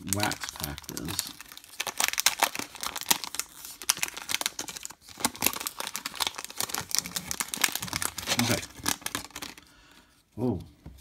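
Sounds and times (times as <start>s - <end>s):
cellophane wrapper crinkling: 0.0s - 10.0s.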